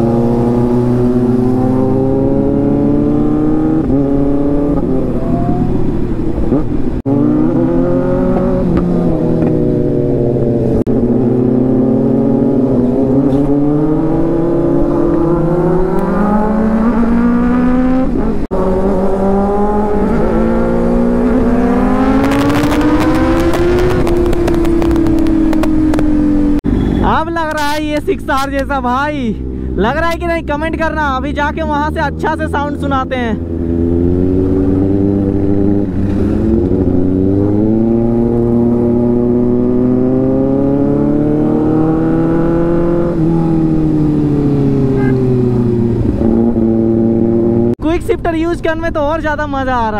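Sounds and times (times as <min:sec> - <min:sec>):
motorcycle engine revving: 0:00.0 - 0:27.2, 0:29.2 - 0:47.8.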